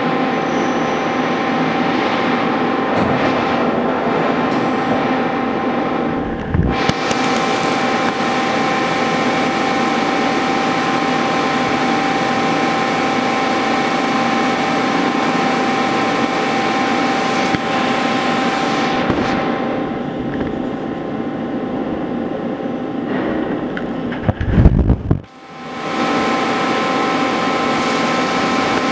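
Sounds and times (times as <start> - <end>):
lathe mechanical whine: 0.0 - 24.5, 25.2 - 28.9.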